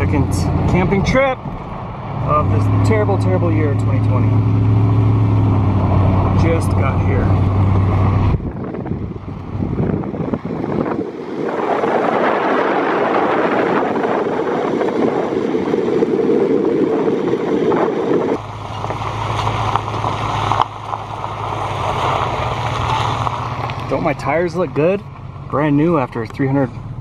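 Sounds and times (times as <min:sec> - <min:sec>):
wind rushing over microphone: 0:00.0 - 0:24.5
truck engine drone: 0:00.0 - 0:27.0.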